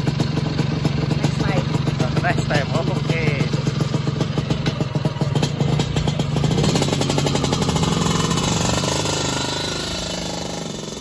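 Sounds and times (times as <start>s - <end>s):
scooter engine revving: 0.0s - 11.0s.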